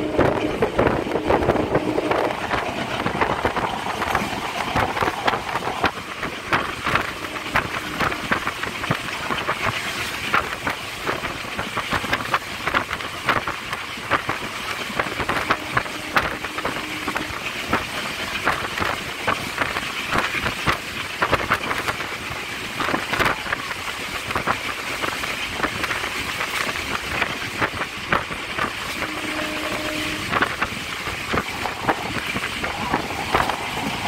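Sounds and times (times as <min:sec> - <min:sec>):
train running noise: 0:00.0 - 0:34.0
train wheels rattling and clanking: 0:00.0 - 0:34.0
wind: 0:00.0 - 0:34.0.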